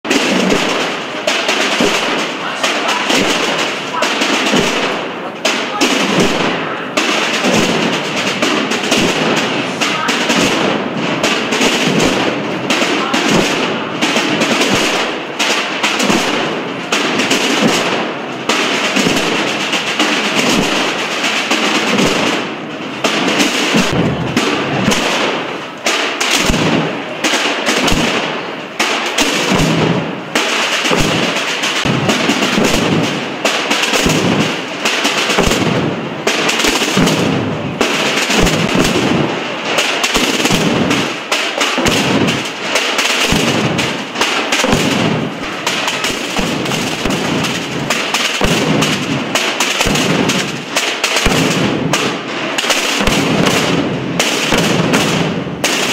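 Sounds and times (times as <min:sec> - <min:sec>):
drum band playing: 0:00.0 - 0:55.9.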